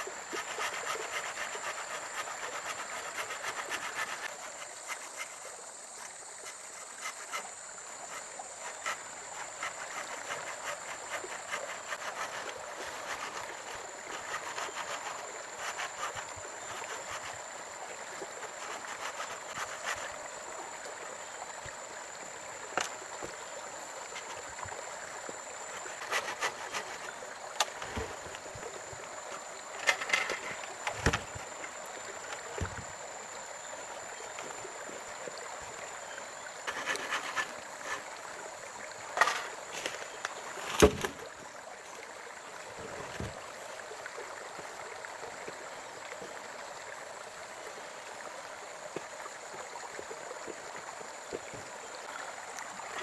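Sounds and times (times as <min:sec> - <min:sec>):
running water rushing: 0:00.0 - 0:53.0.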